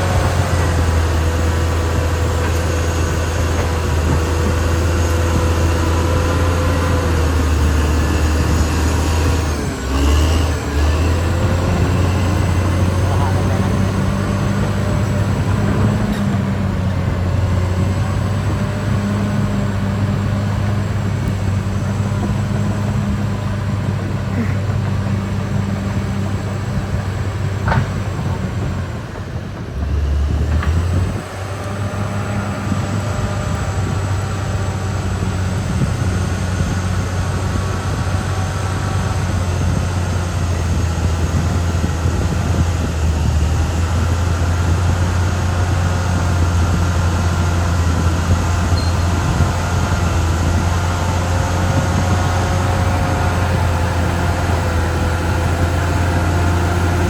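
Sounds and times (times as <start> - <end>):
bulldozer diesel engine under load: 0.0 - 57.0
high whine: 0.0 - 57.0.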